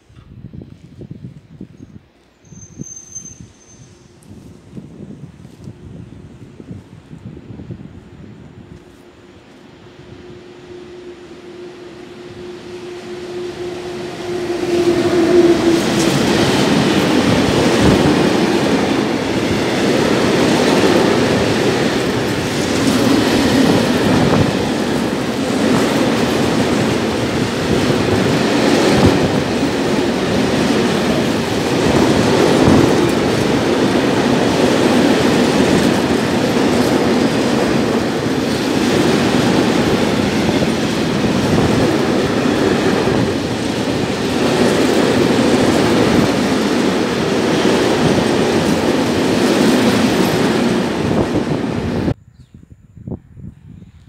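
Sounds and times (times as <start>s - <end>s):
freight train rumbling: 0.0s - 52.2s.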